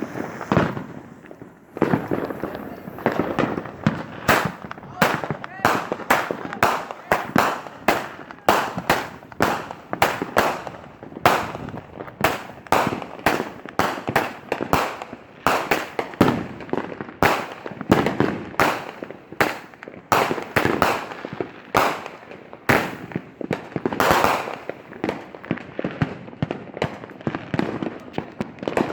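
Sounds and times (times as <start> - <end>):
fireworks banging: 0.0 - 28.9.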